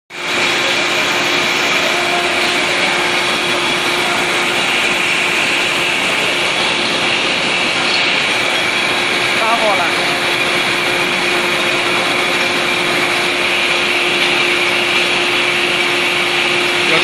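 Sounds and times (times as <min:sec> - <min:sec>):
bottle washing machine running: 0:00.1 - 0:17.0.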